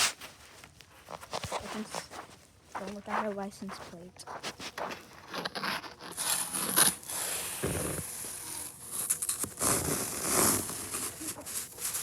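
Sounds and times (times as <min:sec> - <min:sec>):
snow scraping and crunching: 0:00.0 - 0:12.0.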